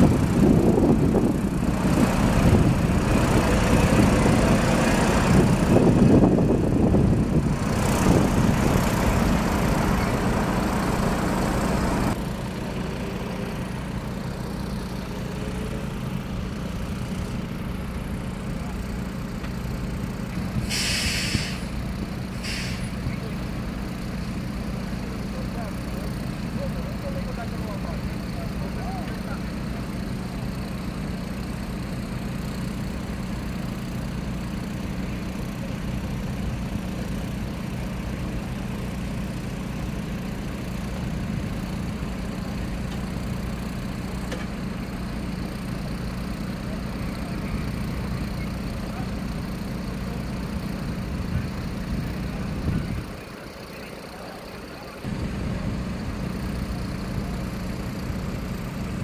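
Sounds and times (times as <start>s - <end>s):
diesel engines idling: 0.0s - 59.0s.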